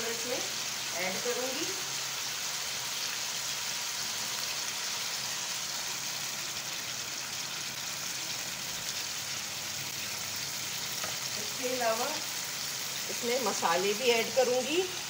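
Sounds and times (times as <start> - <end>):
chicken sizzling in hot fat: 0.0 - 15.0.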